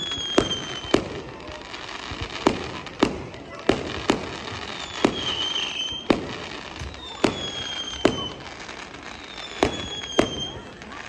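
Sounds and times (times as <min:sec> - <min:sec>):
falling firework whistle: 0:00.0 - 0:02.9, 0:03.7 - 0:11.0.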